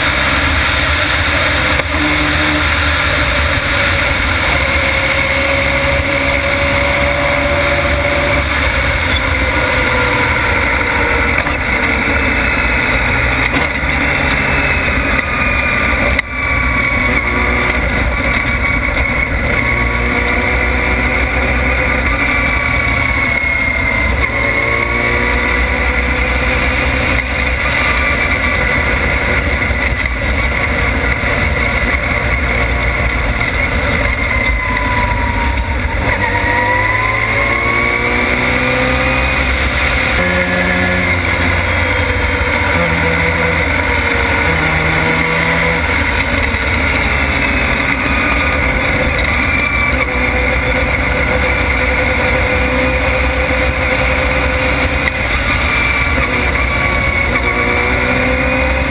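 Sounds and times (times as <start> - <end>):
race car engine at speed: 0.0 - 58.9.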